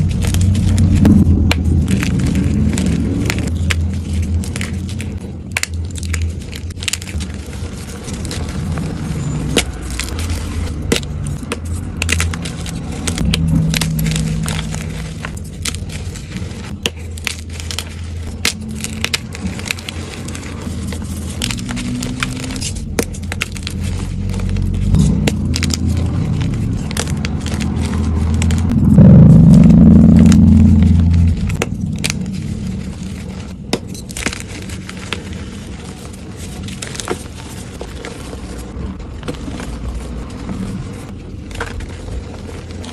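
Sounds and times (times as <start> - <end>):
chalk crunching and crackling: 0.0 - 42.9
low rumble: 0.0 - 42.9.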